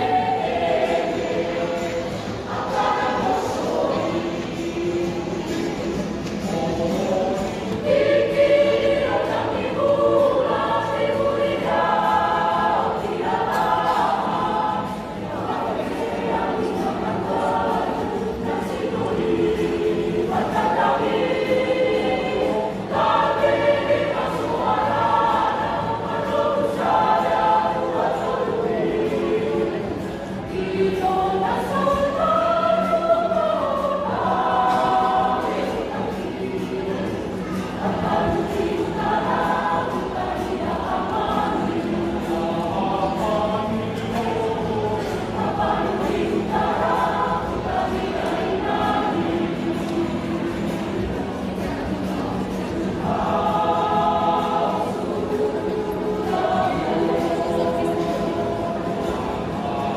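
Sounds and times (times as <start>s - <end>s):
mixed choir singing in parts: 0.0s - 59.9s.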